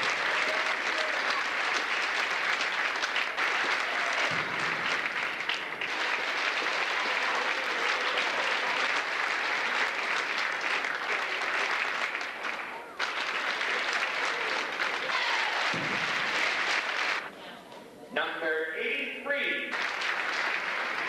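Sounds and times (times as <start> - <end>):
crowd applauding: 0.0 - 17.3, 19.7 - 21.0.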